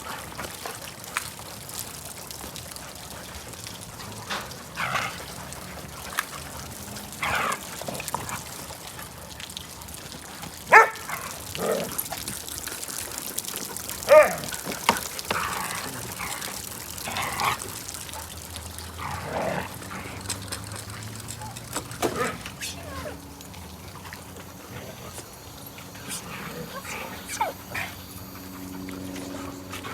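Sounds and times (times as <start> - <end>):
dogs barking and yipping: 3.4 - 29.9.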